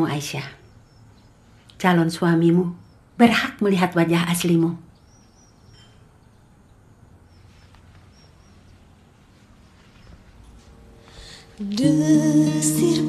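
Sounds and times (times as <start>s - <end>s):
small birds chirping: 0.0s - 11.3s.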